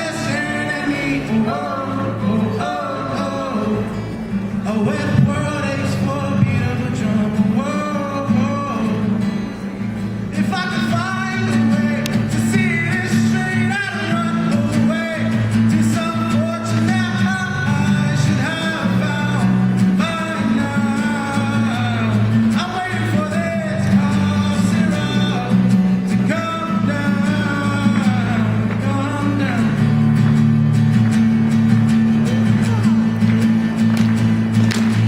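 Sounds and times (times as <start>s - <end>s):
man singing: 0.0s - 9.4s, 10.3s - 30.1s, 32.2s - 33.4s
strummed acoustic guitar: 0.0s - 35.0s.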